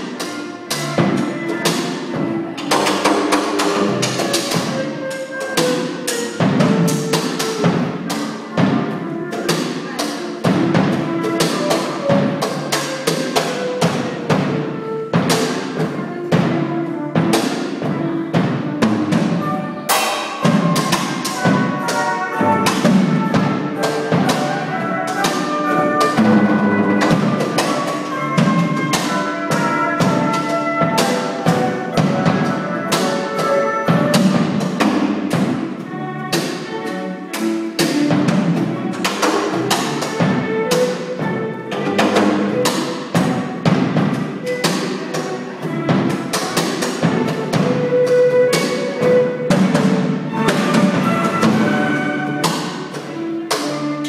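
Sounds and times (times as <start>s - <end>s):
fast drums and percussion: 0.0s - 54.0s
saxophone and cello melody: 0.0s - 54.0s.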